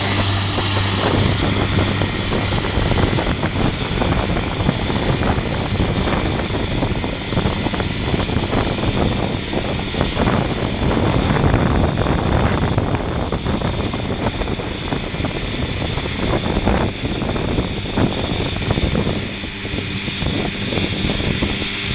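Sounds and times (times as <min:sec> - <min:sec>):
tractor diesel engine running: 0:00.0 - 0:21.9
wind buffeting microphone: 0:00.0 - 0:21.9.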